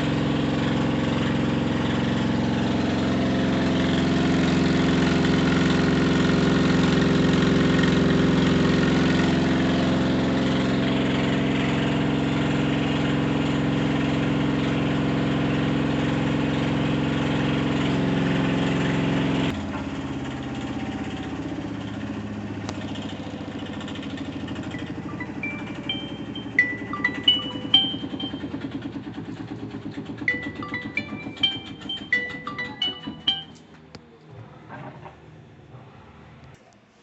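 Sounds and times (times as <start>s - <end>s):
washing machine spinning: 0.0s - 33.6s.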